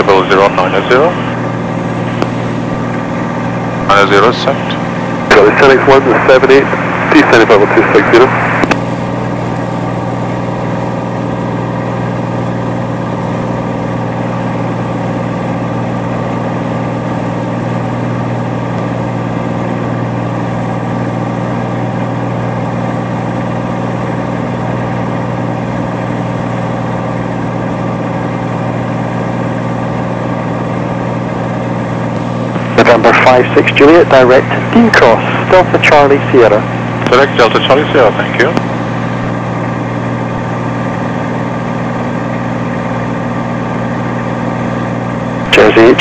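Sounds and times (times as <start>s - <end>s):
propeller plane engine drone: 0.0s - 46.0s.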